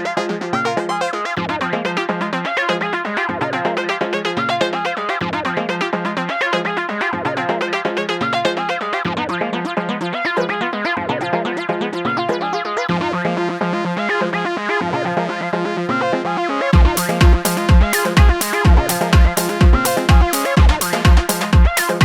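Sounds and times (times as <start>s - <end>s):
electronic synthesizer music: 0.0s - 22.0s.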